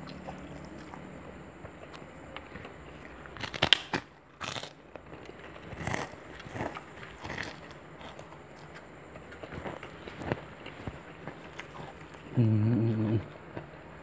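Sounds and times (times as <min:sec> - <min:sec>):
crunchy bites and chewing: 0:00.0 - 0:14.0.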